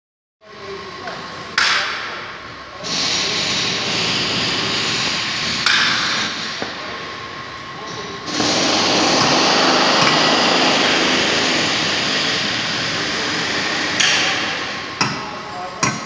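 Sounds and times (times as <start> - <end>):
machinery hissing: 0.5 - 16.0.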